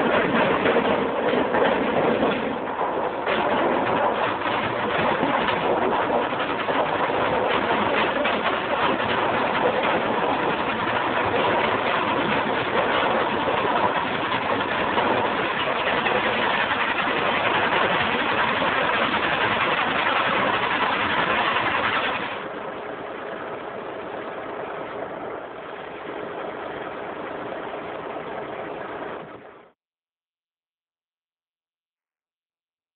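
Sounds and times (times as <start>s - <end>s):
stone tumbling machine running: 0.0s - 29.5s.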